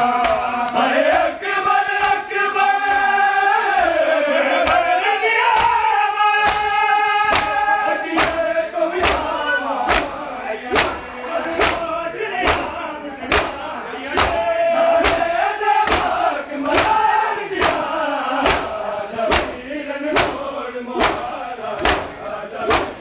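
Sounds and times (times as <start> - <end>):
group chanting a lament: 0.0 - 23.0
men slapping chests in unison: 0.0 - 23.0.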